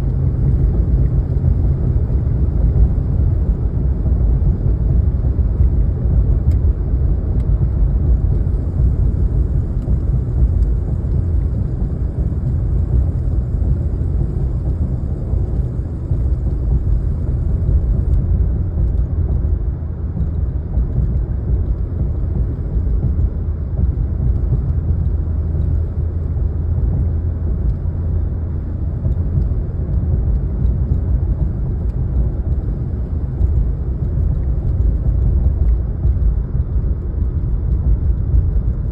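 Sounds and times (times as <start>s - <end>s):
truck low rumble: 0.0s - 38.9s.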